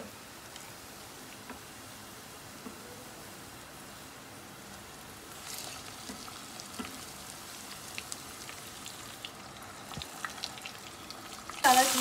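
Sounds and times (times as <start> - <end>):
onions sizzling in a pan: 0.0 - 12.0
pops and crackles of frying: 0.4 - 2.8, 3.8 - 12.0.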